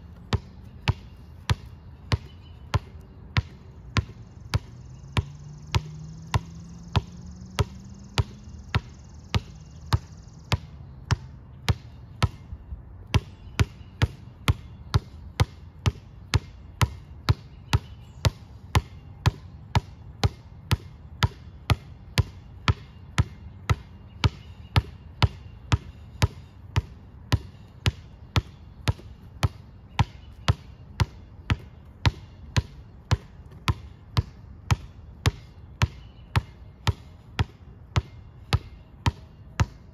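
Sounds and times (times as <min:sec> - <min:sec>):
basketball bouncing on concrete: 0:00.1 - 0:39.9.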